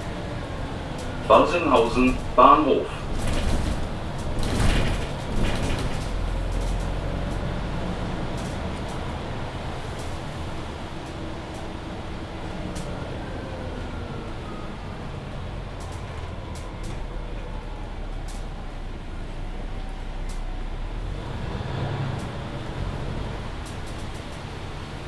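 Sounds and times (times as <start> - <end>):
bus diesel engine drone: 0.0 - 25.0.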